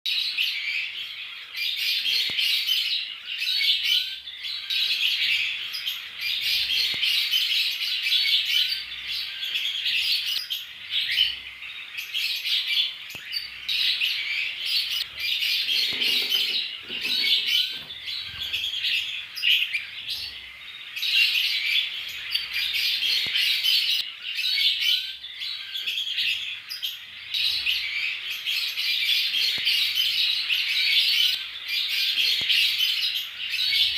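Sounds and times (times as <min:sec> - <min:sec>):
lovebirds chattering and chirping: 0:00.1 - 0:33.9.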